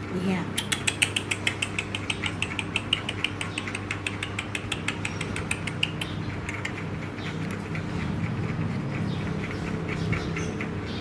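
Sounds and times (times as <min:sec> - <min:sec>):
steady low hum: 0:00.0 - 0:11.0
rapid clicking: 0:00.6 - 0:11.0.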